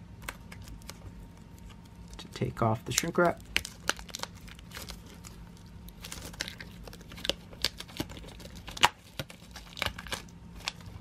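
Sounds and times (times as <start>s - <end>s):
plastic wrap crinkling and tearing: 0.2s - 11.0s.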